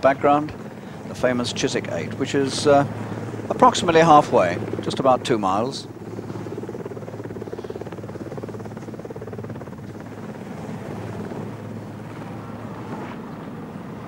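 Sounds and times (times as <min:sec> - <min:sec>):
helicopter rotor beating: 0:00.0 - 0:14.0.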